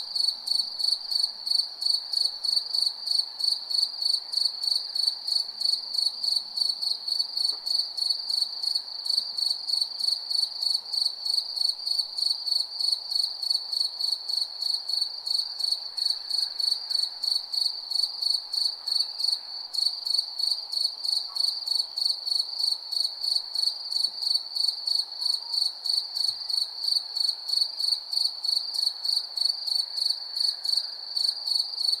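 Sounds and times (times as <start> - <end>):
cricket chirping: 0.1 - 32.0.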